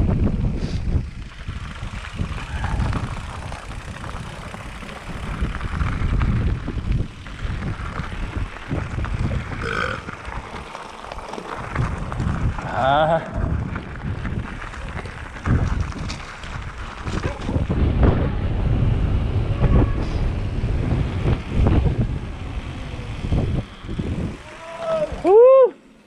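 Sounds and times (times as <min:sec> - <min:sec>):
wind buffeting microphone: 0:00.0 - 0:25.4
bike rumbling and rattling on trail: 0:00.0 - 0:26.0.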